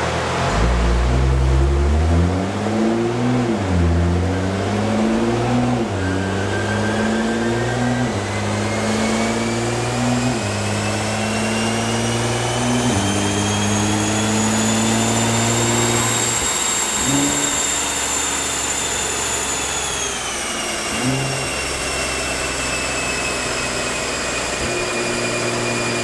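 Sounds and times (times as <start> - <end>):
car engine running hard: 0.0 - 26.0
high whine of dyno rollers: 0.0 - 26.0.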